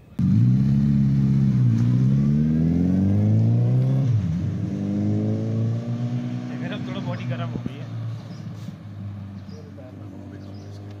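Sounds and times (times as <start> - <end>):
motorcycle engine revving: 0.2 - 11.0.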